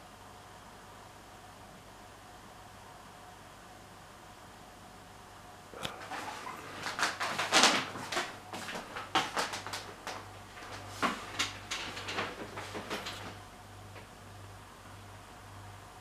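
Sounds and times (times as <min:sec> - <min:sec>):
faint steady low hum: 0:00.0 - 0:16.0.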